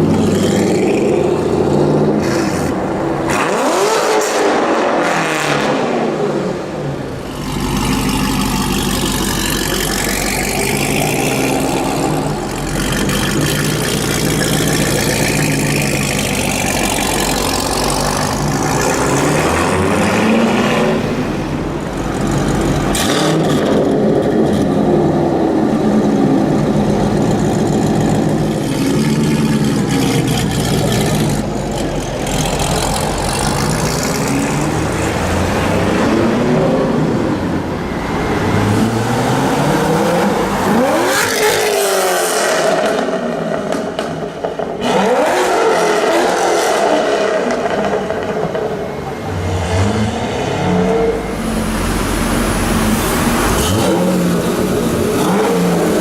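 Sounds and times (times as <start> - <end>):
loud car engines revving: 0.0 - 56.0
car pulling away hard: 7.0 - 56.0.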